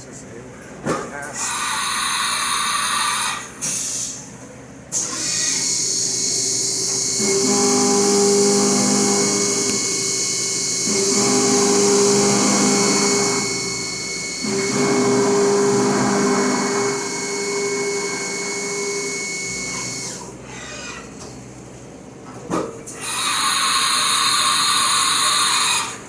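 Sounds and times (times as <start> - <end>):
milling machine spindle whine: 1.3 - 4.1, 5.0 - 21.1, 22.9 - 26.0.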